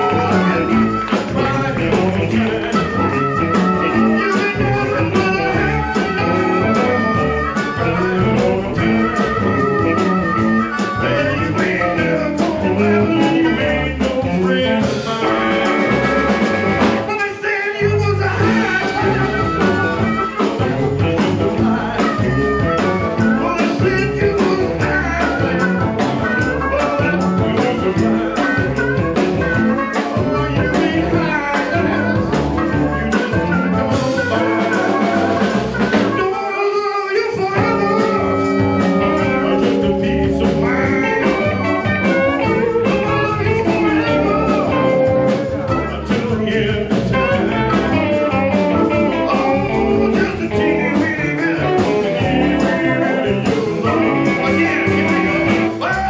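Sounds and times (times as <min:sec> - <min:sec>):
blues band playing: 0:00.0 - 0:56.0
person singing: 0:00.0 - 0:56.0.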